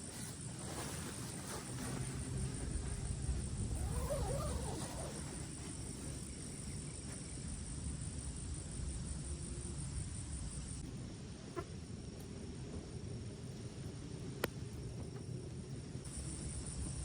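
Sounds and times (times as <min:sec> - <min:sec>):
crickets chirping: 0:00.0 - 0:17.0
low rumbling background noise: 0:00.0 - 0:17.0.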